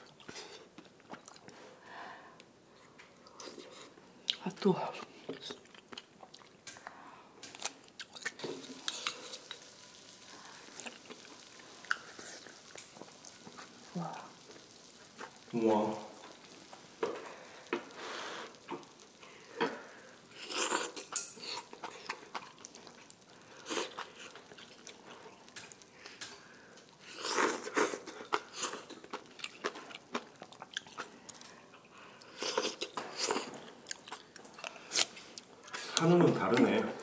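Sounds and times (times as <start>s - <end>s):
chewing: 0.0s - 1.7s, 5.0s - 36.8s.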